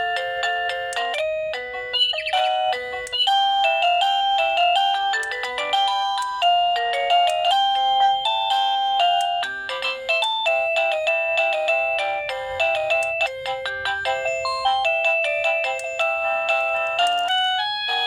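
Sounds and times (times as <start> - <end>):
doorbell electronic beeping melody: 0.0 - 18.0.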